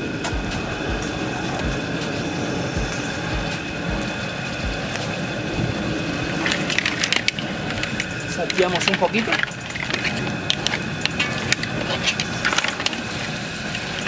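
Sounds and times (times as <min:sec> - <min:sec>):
burner rumbling hiss: 0:00.0 - 0:14.0
food frying in pot: 0:00.0 - 0:14.0.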